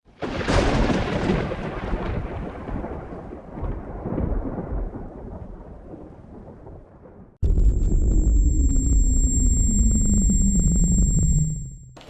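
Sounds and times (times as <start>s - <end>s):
thunderclap with rolling rumble: 0.2s - 12.0s.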